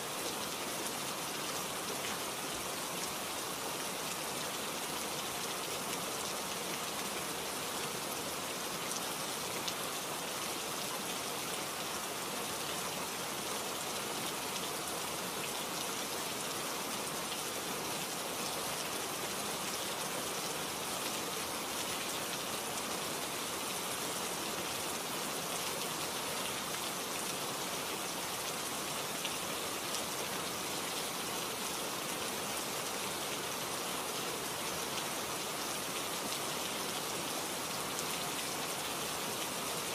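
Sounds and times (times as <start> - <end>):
steady rain-like hiss: 0.0 - 39.9.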